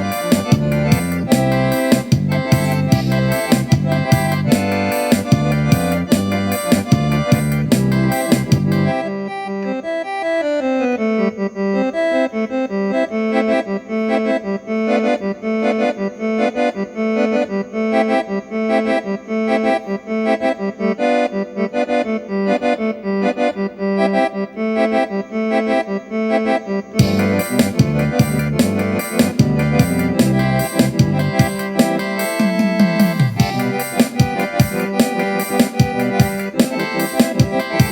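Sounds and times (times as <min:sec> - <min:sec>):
accordion melody: 0:00.0 - 0:37.9.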